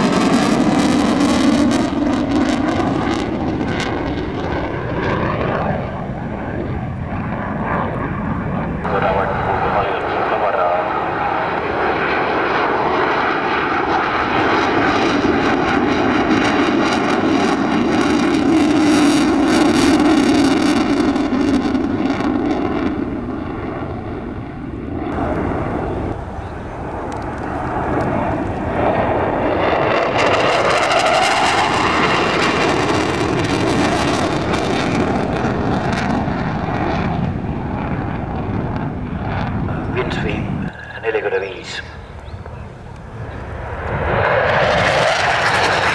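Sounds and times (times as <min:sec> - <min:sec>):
airplane engine flying by: 0:00.0 - 0:45.9.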